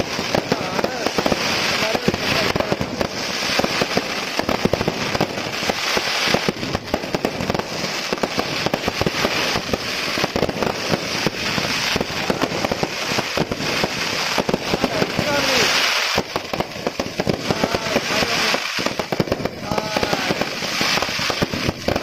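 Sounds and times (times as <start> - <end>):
fireworks bangs and crackling: 0.0 - 22.0
hiss of sparks: 0.0 - 22.0.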